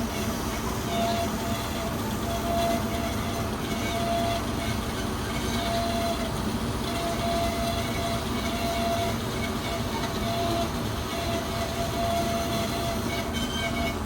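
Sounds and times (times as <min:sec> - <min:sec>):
band saw mechanical noise: 0:00.0 - 0:14.0.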